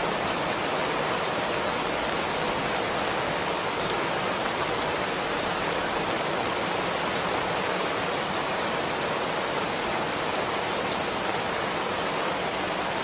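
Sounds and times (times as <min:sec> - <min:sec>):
rain shower falling: 0:00.0 - 0:13.0.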